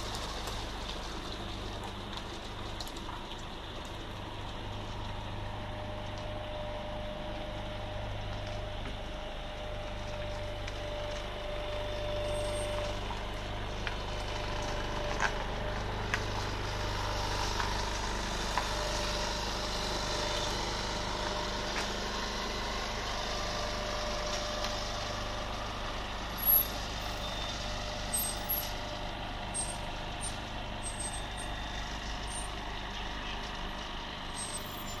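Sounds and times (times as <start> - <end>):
truck diesel engine idling: 0.0 - 35.0.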